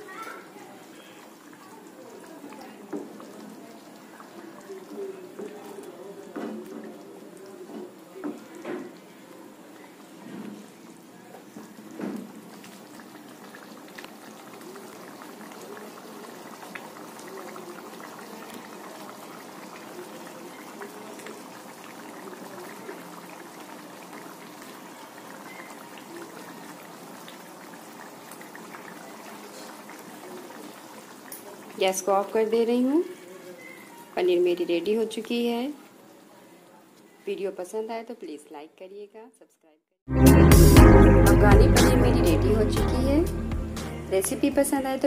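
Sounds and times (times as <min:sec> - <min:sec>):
gravy bubbling in a pan: 0:00.0 - 0:37.3.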